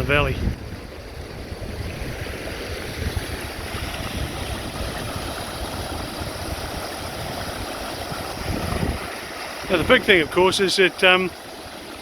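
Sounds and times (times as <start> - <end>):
wind buffeting microphone: 0.0 - 10.7
creek rushing: 0.0 - 12.0.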